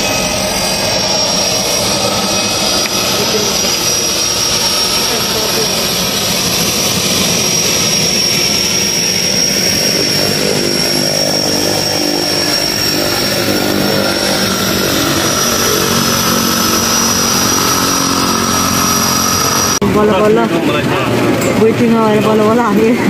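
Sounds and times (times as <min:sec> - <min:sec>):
loud propeller noise: 0:00.0 - 0:23.0
low propeller drone: 0:00.0 - 0:23.0
turbine whine: 0:00.0 - 0:23.0.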